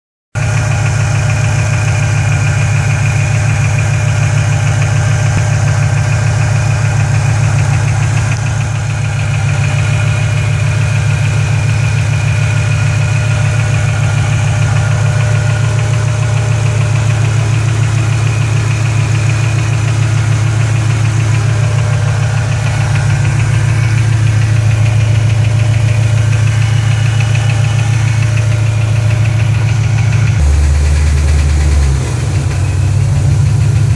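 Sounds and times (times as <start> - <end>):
car engine idling: 0.4 - 33.9
rapid engine ticking: 0.4 - 33.9.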